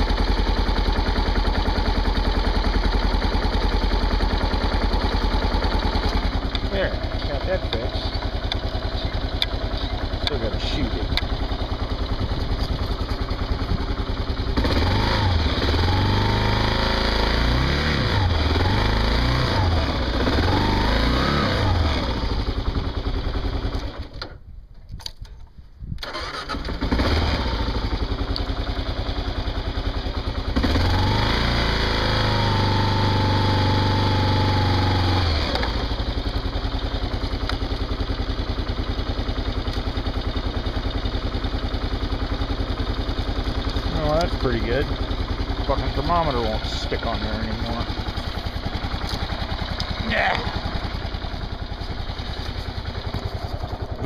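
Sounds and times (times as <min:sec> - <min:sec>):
motorcycle engine revving: 0:00.0 - 0:24.3, 0:26.0 - 0:54.0.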